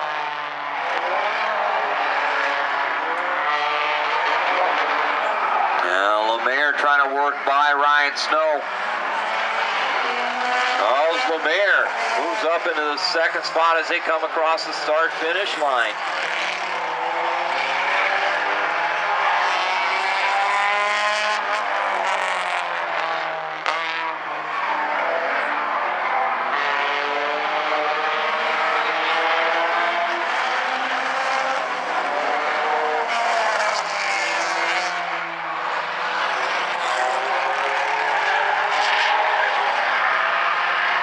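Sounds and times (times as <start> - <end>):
race car engines: 0.0 - 41.0.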